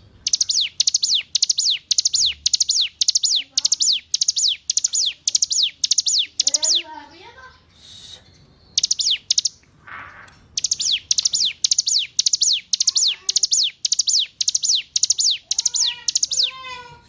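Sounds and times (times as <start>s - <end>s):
lower bird chirps: 0.0s - 7.0s, 7.7s - 16.9s
bird singing repeated high phrase: 0.0s - 17.0s.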